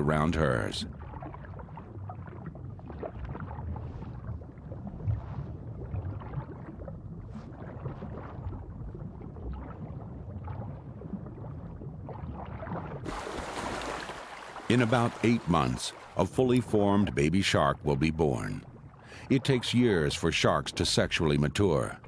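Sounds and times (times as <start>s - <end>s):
water rumbling and gurgling: 0.0s - 22.0s.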